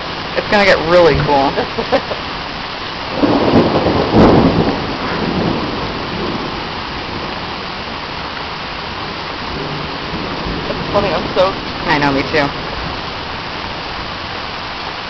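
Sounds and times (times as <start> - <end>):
thunder rumbling: 0.0 - 14.8
torrential rain pouring: 0.0 - 15.0.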